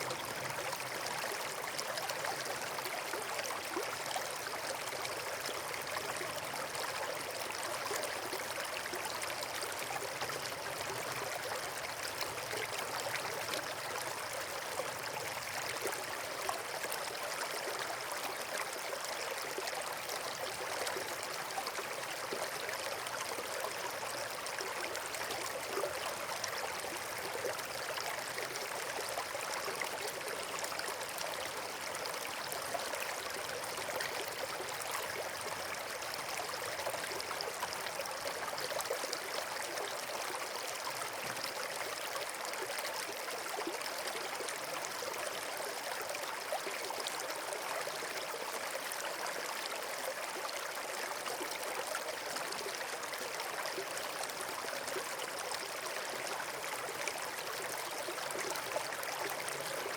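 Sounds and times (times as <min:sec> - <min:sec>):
stream water rushing and trickling: 0:00.0 - 0:59.9.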